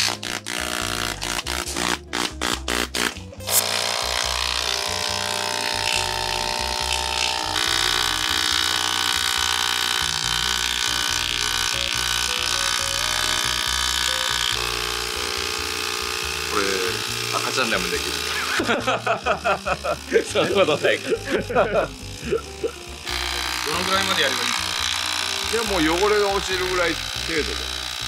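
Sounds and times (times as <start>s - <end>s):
background music: 0.0s - 28.0s
electric water sprayer buzzing: 0.0s - 28.0s.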